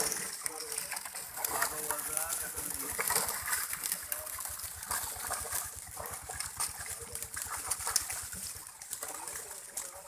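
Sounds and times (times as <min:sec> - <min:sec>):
fish flapping in metal tray: 0:00.0 - 0:10.0
small engine puttering: 0:00.0 - 0:10.0
water splashing: 0:00.0 - 0:10.0.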